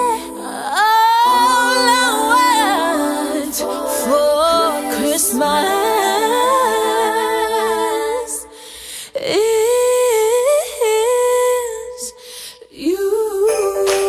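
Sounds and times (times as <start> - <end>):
female vocal group singing in harmony: 0.0 - 14.0.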